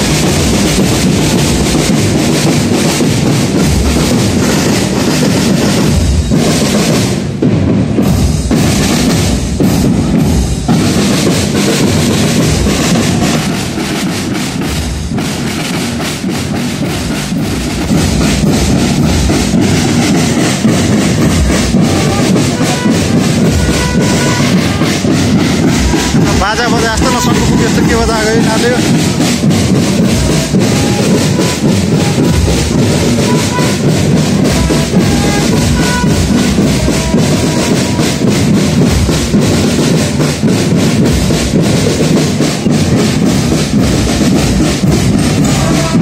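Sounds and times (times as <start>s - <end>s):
bass drum: 0.0s - 46.0s
live music: 0.0s - 46.0s
snare drum: 0.0s - 46.0s.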